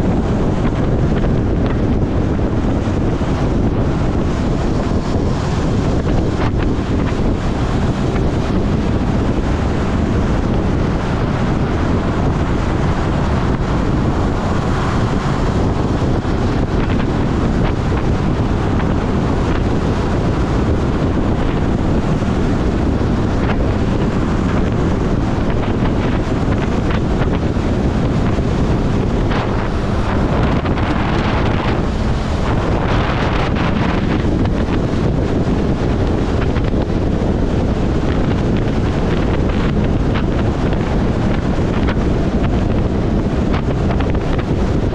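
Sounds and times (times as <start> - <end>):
motorcycle engine running: 0.0 - 44.9
wind noise on microphone: 0.0 - 44.9.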